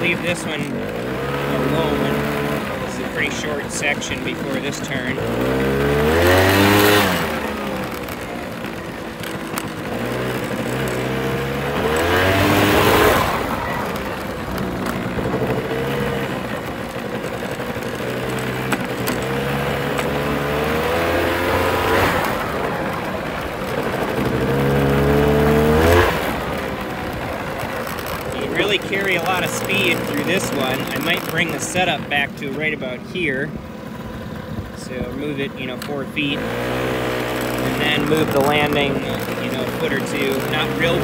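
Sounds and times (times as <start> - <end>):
motorbike engine revving: 0.0 - 41.0.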